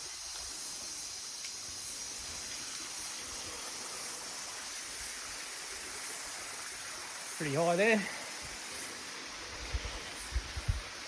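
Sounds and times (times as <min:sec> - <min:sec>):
waterfall cascading over rocks: 0:00.0 - 0:11.0.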